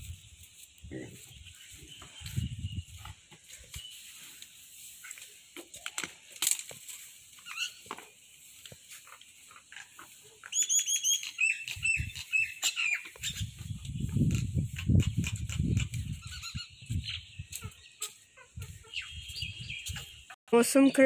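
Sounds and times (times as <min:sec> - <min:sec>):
bird chirping: 0:00.0 - 0:06.3, 0:07.1 - 0:21.0.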